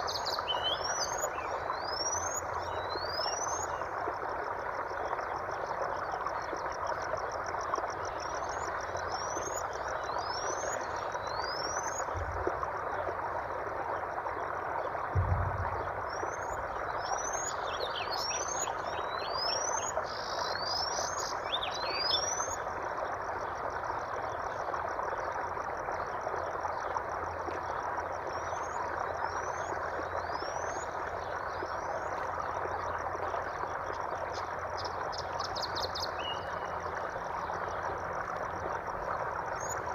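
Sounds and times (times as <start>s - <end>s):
high even trill of frogs: 0.0s - 39.9s
steady running water: 0.0s - 39.9s.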